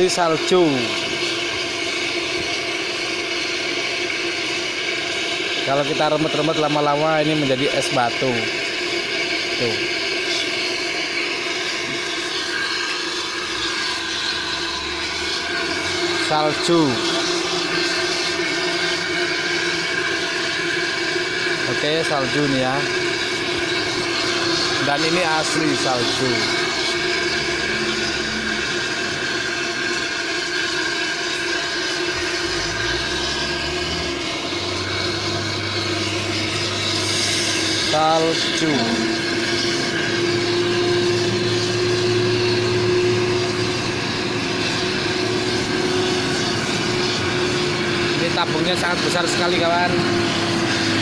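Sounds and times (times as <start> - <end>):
liquid nitrogen rushing hiss: 0.0 - 51.0
machine-like tones: 0.0 - 51.0
steady hum: 0.0 - 51.0.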